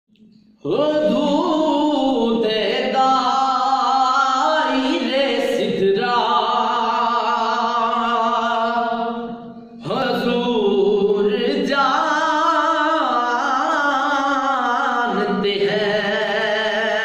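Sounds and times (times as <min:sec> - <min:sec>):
young man singing: 0:00.6 - 0:17.0.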